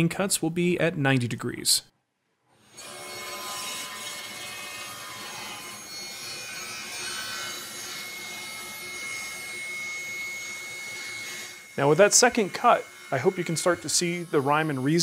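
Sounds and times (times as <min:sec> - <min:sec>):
table saw cutting wood: 0:02.6 - 0:15.0.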